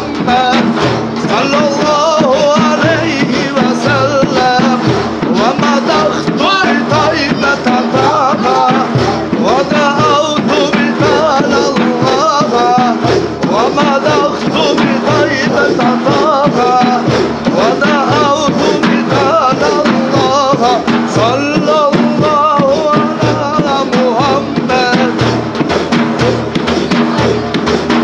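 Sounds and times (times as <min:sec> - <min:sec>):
men singing a hymn together: 0:00.0 - 0:27.2
steady low beat: 0:00.0 - 0:28.0.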